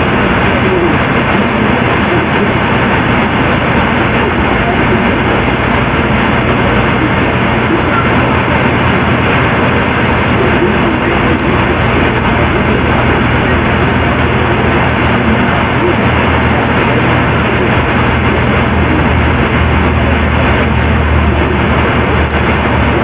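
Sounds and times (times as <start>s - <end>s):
loud static noise: 0.0s - 23.0s
low hum: 0.0s - 23.0s.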